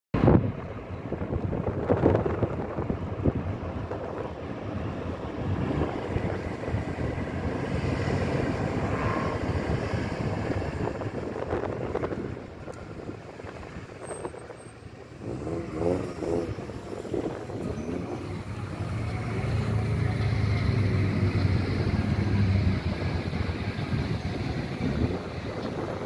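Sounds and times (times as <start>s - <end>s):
moving car running noise: 0.1s - 26.0s
wind buffeting microphone: 0.2s - 26.0s.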